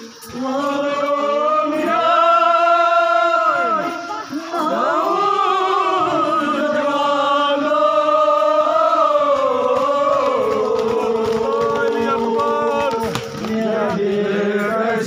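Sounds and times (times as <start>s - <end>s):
men chanting together: 0.1s - 15.0s.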